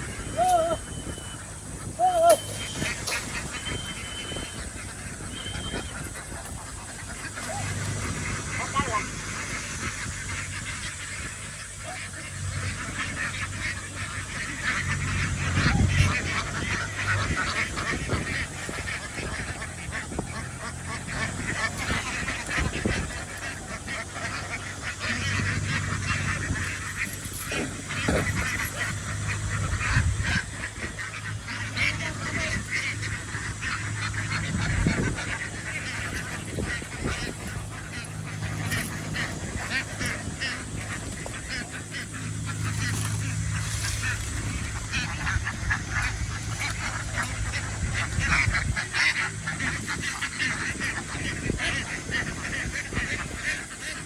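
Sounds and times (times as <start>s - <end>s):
low hum: 0.0s - 53.5s
ducks quacking: 0.0s - 54.0s.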